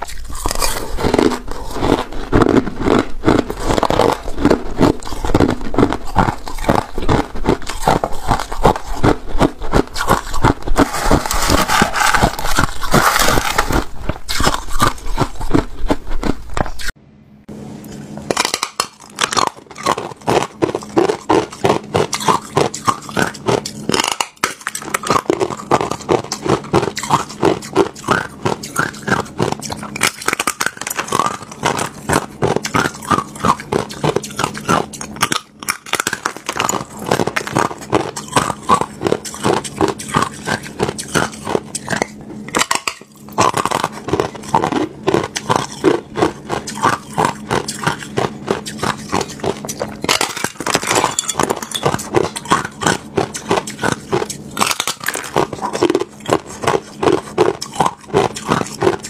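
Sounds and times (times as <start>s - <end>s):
chewing ice crunches: 0.0s - 17.0s, 18.3s - 59.0s.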